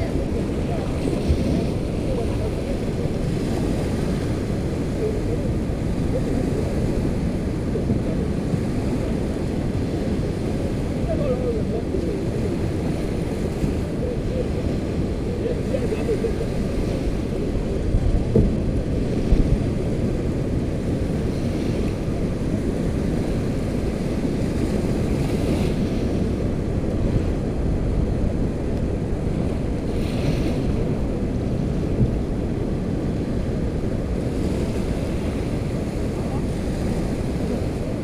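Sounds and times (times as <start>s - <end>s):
small waves washing on sand: 0.0s - 38.0s
wind rumbling on microphone: 0.0s - 38.0s.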